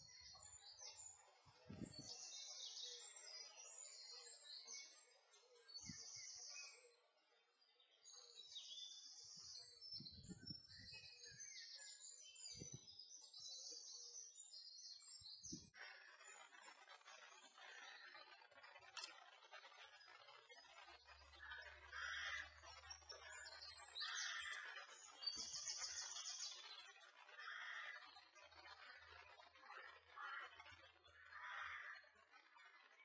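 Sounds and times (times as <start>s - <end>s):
songbirds chirping and trilling: 0.0s - 33.0s.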